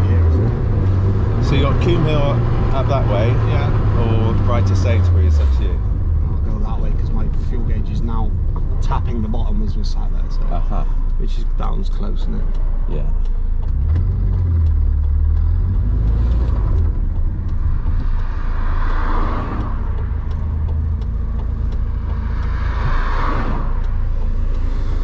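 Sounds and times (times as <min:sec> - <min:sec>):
car engine rumbling: 0:00.0 - 0:25.0
road noise: 0:00.0 - 0:25.0.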